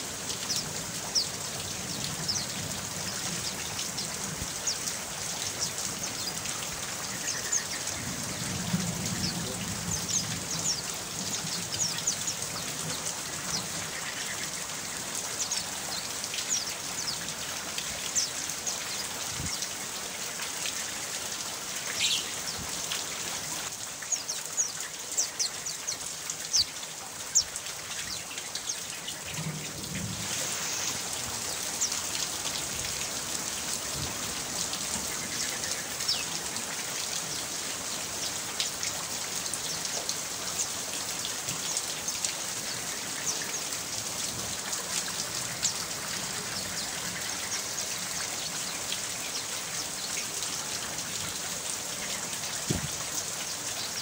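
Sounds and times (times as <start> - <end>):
rain drops ticking: 0.0 - 54.0
steady rain: 0.0 - 54.0.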